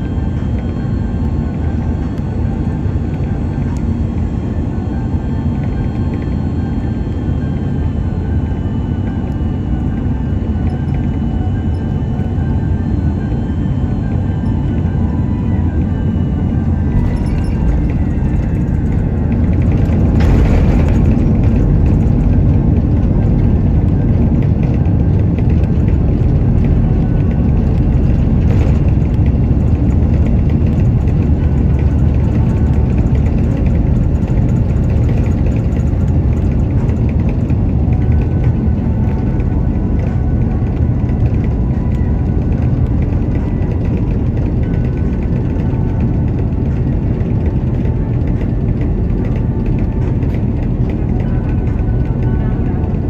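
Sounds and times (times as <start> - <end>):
airplane engines and wheels rumbling: 0.0 - 53.0.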